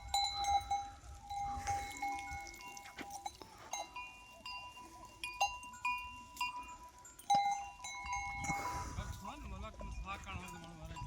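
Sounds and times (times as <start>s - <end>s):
metal goat bells clinking: 0.0s - 11.0s.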